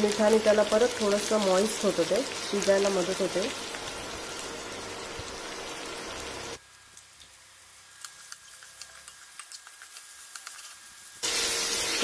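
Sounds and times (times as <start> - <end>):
vegetable slices sizzling in oil: 0.0 - 12.0.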